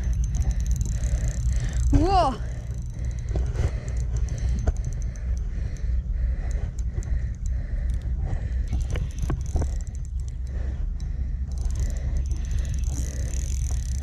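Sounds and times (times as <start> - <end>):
fishing reel clicking: 0.0 - 14.0.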